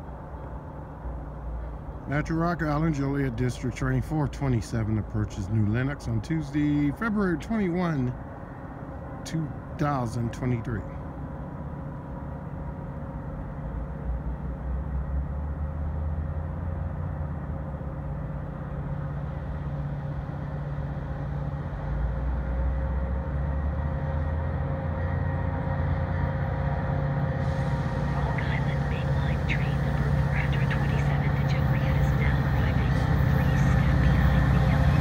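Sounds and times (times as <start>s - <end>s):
diesel locomotive engine drone: 0.0s - 35.0s.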